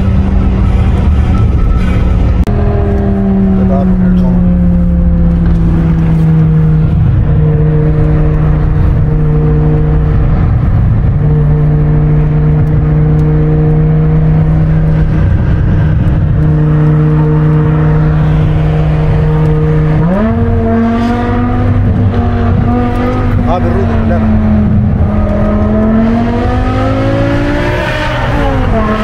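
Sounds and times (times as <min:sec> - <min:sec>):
car engine droning in cabin: 0:00.0 - 0:29.0.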